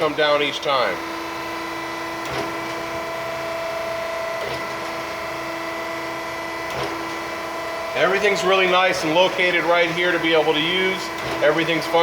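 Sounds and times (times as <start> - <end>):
grinder machine humming and whining: 0.0 - 12.0.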